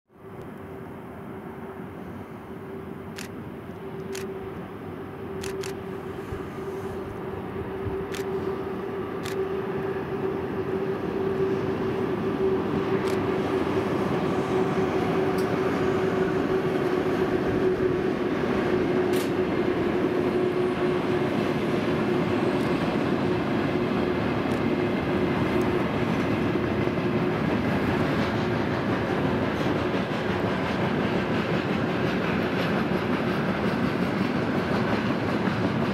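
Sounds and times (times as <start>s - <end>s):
freight train rumbling: 0.2s - 35.9s.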